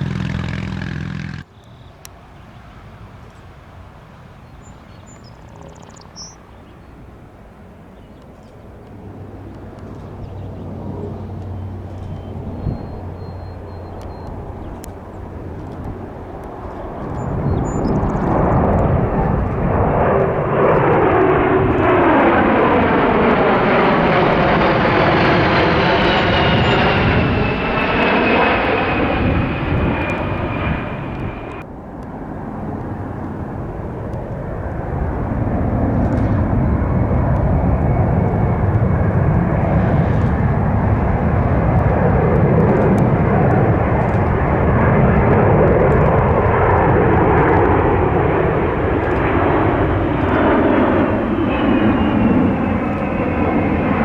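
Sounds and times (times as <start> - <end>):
high engine whine: 0.0 - 1.8, 9.2 - 54.0
aircraft engine passing by: 0.0 - 54.0.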